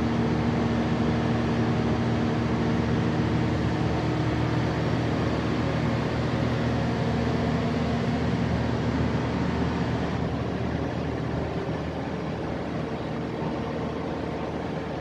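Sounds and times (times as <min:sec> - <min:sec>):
diesel generator engine drone: 0:00.0 - 0:15.0.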